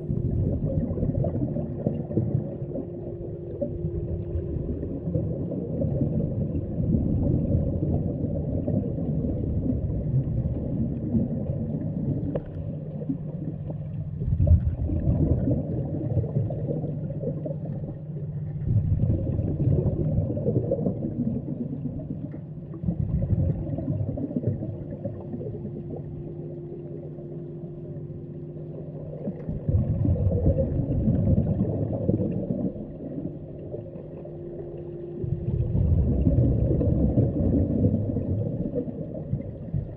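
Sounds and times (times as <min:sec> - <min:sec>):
diver's exhaled air bubbles: 0:00.0 - 0:27.2, 0:28.6 - 0:39.9
underwater machinery hum: 0:00.0 - 0:39.9.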